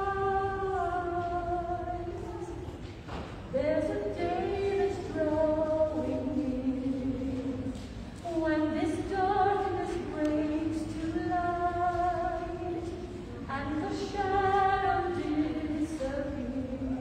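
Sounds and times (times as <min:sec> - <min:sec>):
woman singing into microphone: 0:00.0 - 0:02.8, 0:03.5 - 0:17.0.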